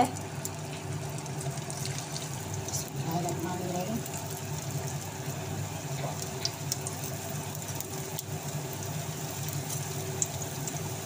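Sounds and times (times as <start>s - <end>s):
kebabs sizzling in oil: 0.0s - 11.0s.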